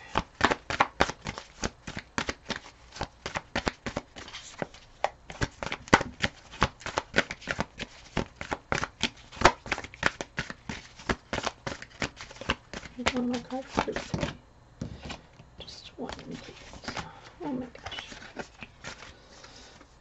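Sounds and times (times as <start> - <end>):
cards being shuffled: 0.1 - 19.9.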